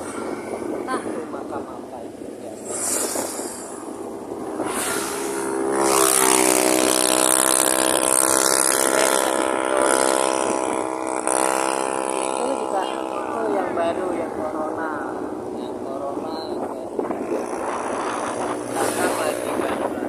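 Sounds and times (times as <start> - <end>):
loud engine drone: 0.0 - 20.0
road noise: 0.0 - 20.0
wind rush: 0.0 - 20.0.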